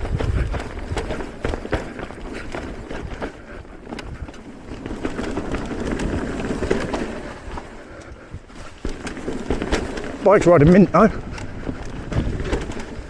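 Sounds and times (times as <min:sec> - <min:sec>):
bike clattering over bumps: 0:00.0 - 0:13.0
bike tyres rumbling on dirt: 0:00.0 - 0:13.0
wind buffeting microphone: 0:00.0 - 0:13.0.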